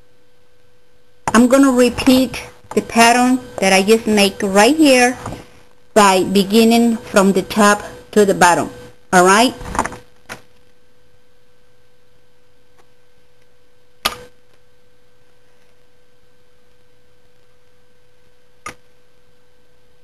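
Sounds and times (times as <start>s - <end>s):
faint single-pitched hum: 0.0s - 20.0s.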